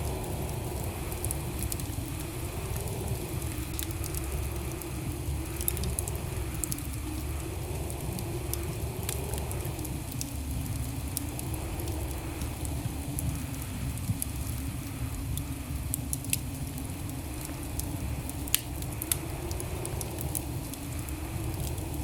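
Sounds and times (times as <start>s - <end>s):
burning logs crackling: 0.0s - 22.0s
low rumble of flame: 0.0s - 22.0s.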